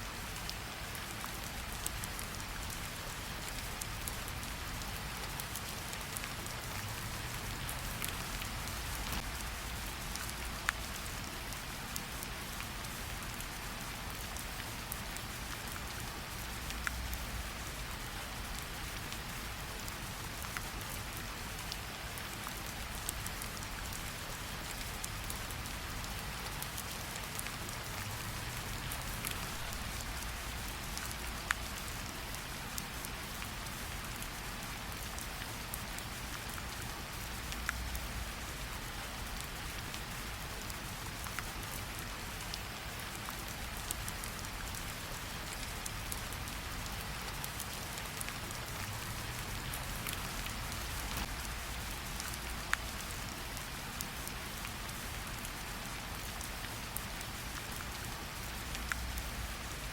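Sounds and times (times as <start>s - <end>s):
rain pattering on leaves: 0.1s - 59.9s
water drips from leaves: 0.1s - 59.9s.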